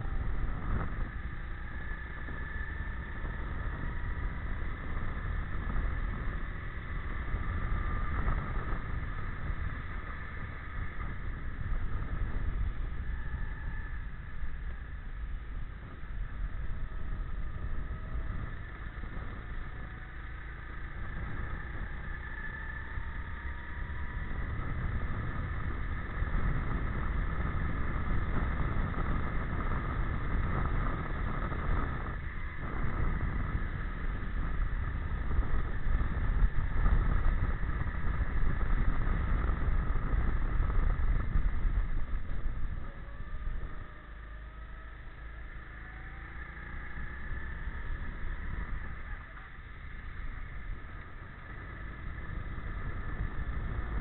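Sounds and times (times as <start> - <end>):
heavy low rumble: 0.0 - 54.0.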